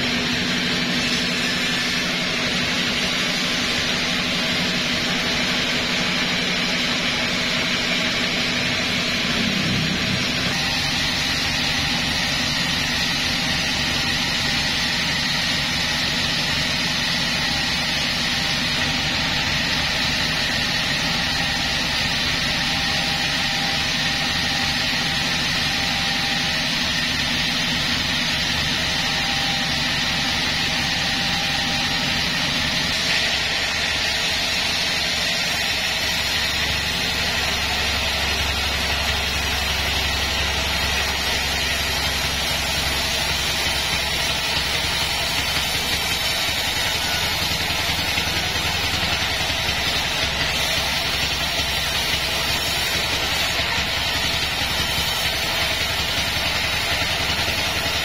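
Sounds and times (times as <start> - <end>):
sawmill machinery drone with whine: 0.0 - 58.0.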